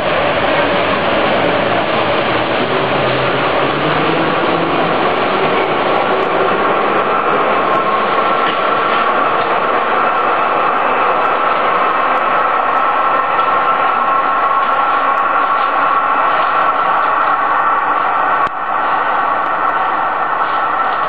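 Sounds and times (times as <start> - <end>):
rumble of subway wheels on rails: 0.0 - 21.0.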